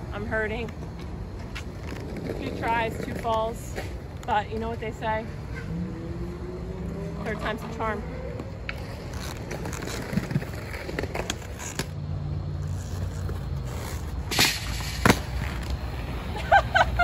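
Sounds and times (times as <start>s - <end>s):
inline skates rolling on concrete: 0.0s - 17.0s.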